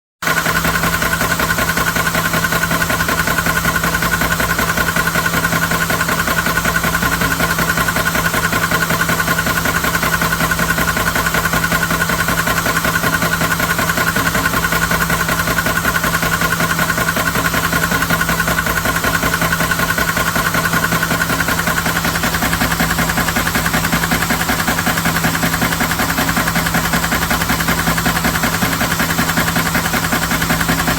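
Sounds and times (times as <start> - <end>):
air compressor humming: 5.5 - 30.9.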